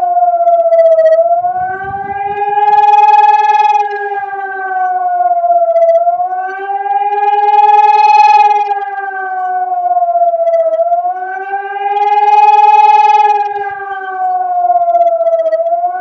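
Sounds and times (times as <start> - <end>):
siren wailing: 0.9 - 16.0.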